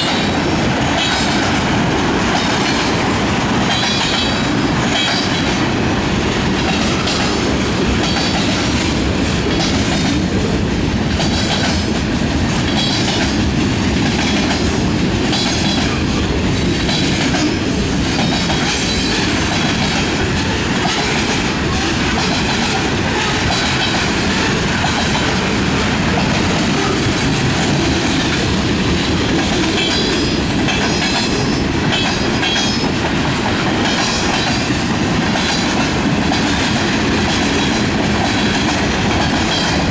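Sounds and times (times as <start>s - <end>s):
freight train rumble: 0.0s - 39.9s
wheels clacking over rail joints: 0.0s - 39.9s.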